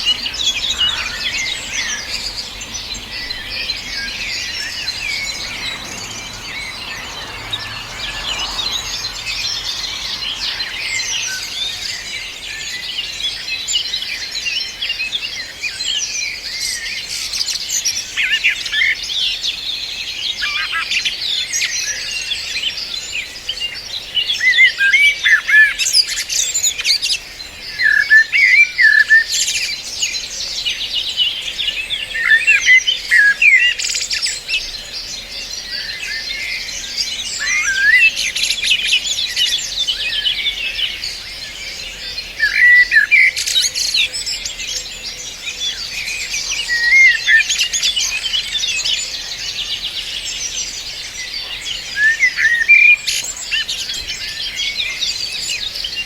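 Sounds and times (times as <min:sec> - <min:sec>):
birds twittering and chirping: 0:00.0 - 0:56.0.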